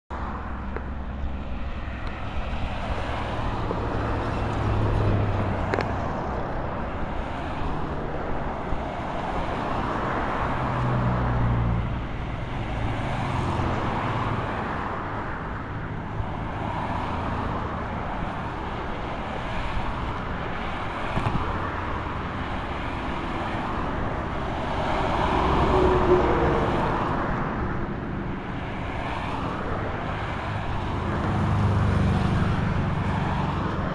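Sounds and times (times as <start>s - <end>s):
traffic passing: 0.1s - 33.9s.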